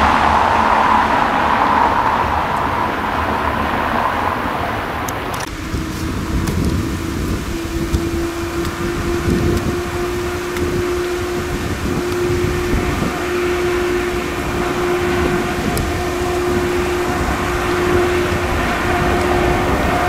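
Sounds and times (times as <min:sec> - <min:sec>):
electric locomotive humming tone: 0:00.0 - 0:20.0
train low rumble: 0:00.0 - 0:20.0.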